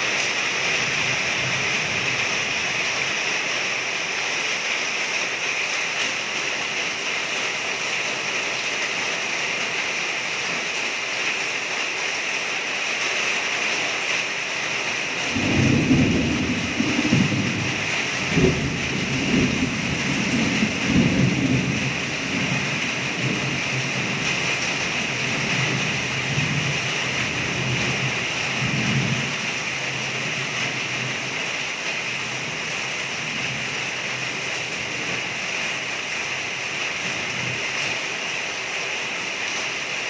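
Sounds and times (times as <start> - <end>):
heavy rain on a roof: 0.0 - 40.0.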